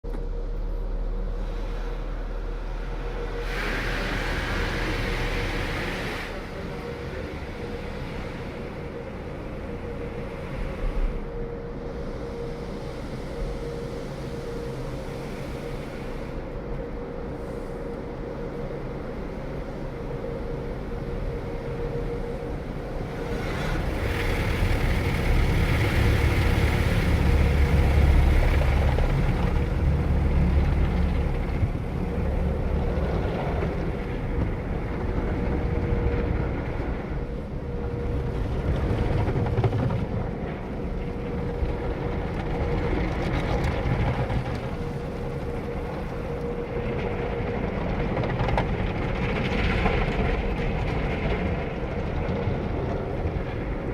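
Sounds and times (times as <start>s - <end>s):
car wash machinery rumbling: 0.0s - 53.9s.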